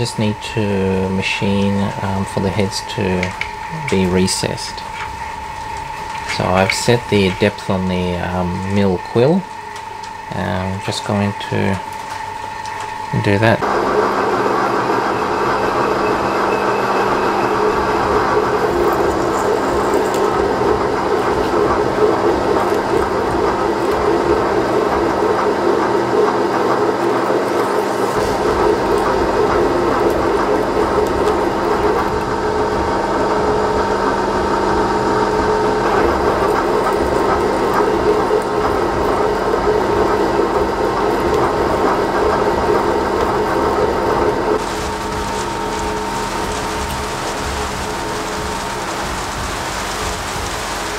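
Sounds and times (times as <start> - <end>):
end mill cutting steel: 0.0 - 50.9
milling machine spindle hum and whine: 0.0 - 50.9.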